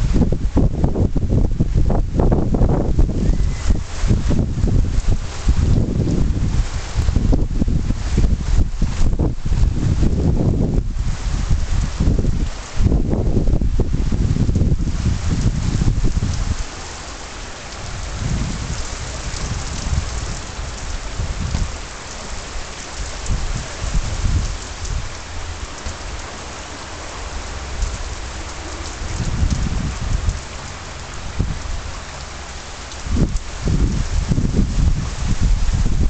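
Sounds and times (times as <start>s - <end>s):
wind buffeting microphone: 0.0s - 17.0s, 17.6s - 36.0s
heavy rain on pavement: 0.0s - 36.0s.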